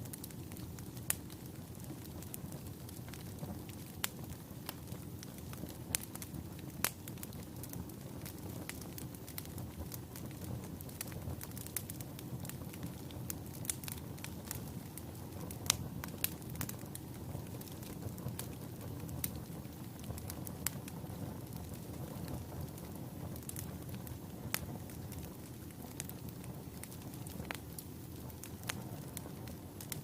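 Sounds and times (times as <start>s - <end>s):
fire crackling and popping: 0.0s - 30.0s
fire flames rumbling: 0.0s - 30.0s.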